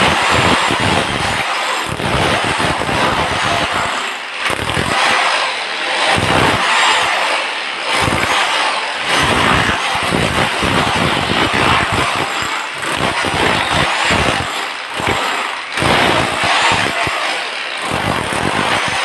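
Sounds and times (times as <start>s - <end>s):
power tool running under load: 0.0s - 19.0s.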